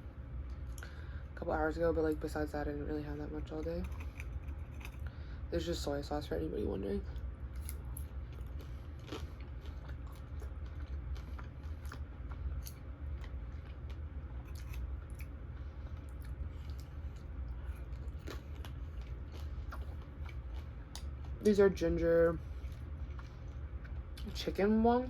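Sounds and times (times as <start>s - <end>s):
low hum: 0.0s - 25.0s
crunching and chewing fried food: 3.1s - 5.9s, 7.0s - 24.6s.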